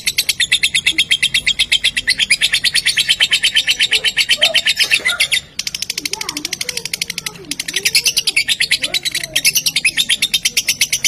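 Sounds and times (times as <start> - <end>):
lovebird chattering: 0.0 - 11.0.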